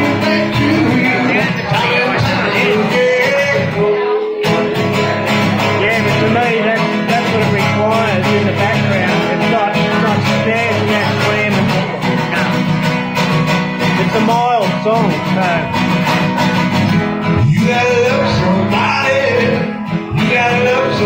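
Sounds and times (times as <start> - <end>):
man singing: 0.0 - 16.0, 16.6 - 21.0
acoustic guitar strumming: 0.0 - 21.0.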